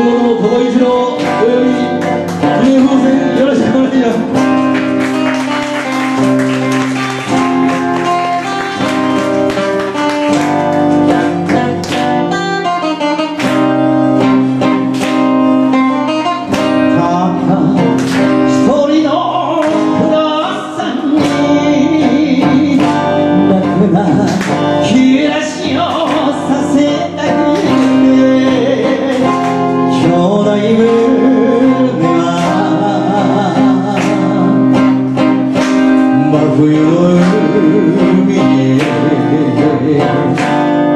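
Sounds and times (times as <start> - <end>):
guitar-led backing music: 0.0 - 40.9.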